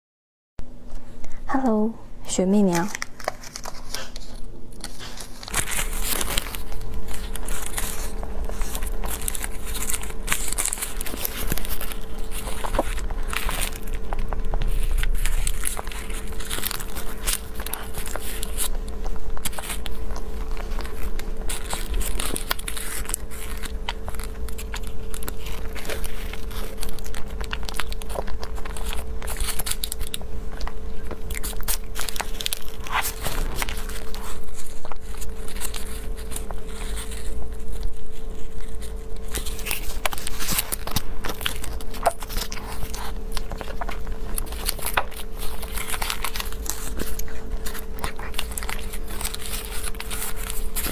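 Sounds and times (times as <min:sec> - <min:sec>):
faint steady hum: 0:00.6 - 0:50.9
paper cup crinkling: 0:02.7 - 0:50.9
chewing and wet mouth sounds: 0:02.8 - 0:50.9.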